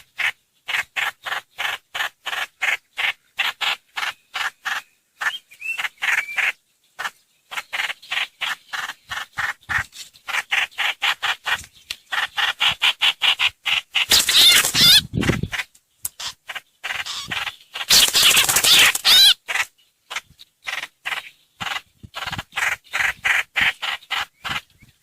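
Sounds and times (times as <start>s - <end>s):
bird harsh chattering calls: 0.0s - 25.0s.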